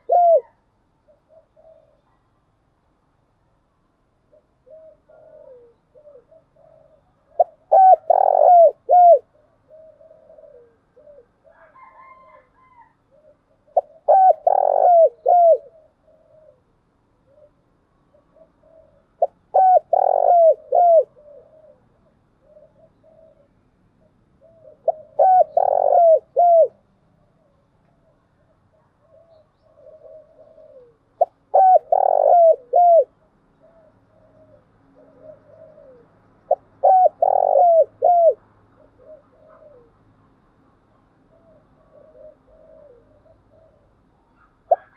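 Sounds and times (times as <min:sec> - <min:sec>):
dove cooing: 0:00.0 - 0:02.3, 0:04.2 - 0:40.2, 0:41.0 - 0:44.9.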